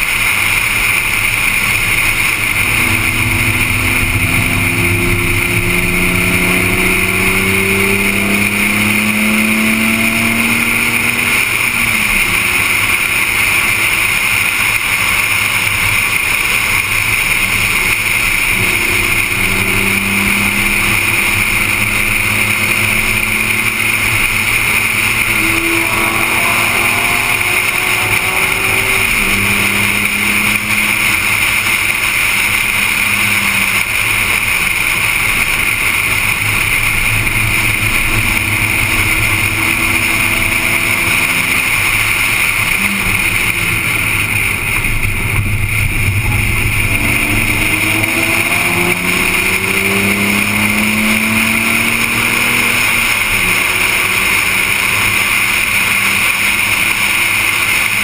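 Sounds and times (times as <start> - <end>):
car engine revving: 0.0 - 58.0
road noise: 0.0 - 58.0.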